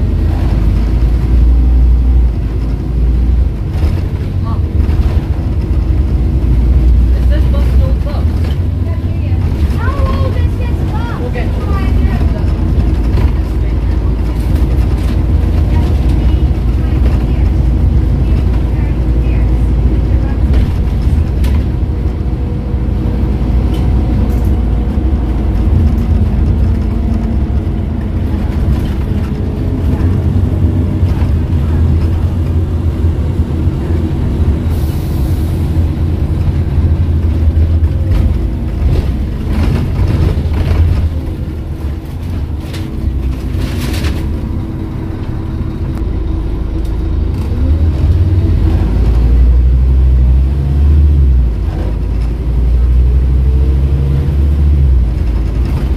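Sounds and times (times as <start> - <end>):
bus diesel engine drone: 0.0 - 55.9.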